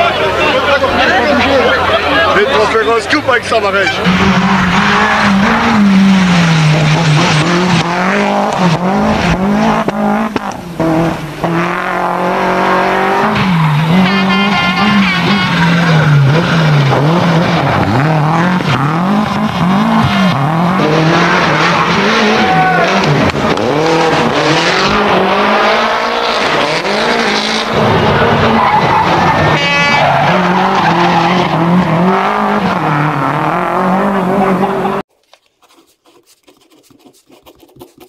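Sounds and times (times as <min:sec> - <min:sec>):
rally car engine revving hard: 0:04.0 - 0:35.0.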